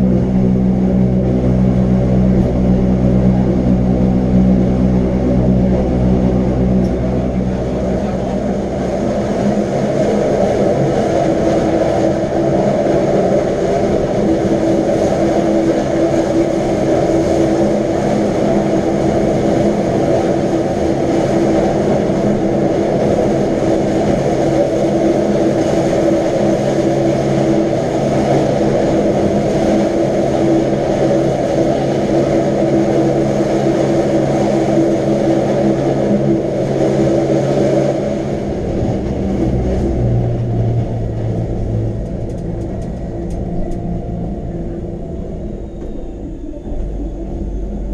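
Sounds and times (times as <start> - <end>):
electric train running: 0.0 - 47.9.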